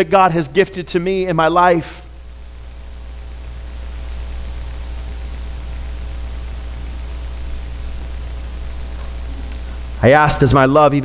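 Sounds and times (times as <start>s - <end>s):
electrical hum: 0.0s - 11.0s
even hiss: 0.0s - 11.0s.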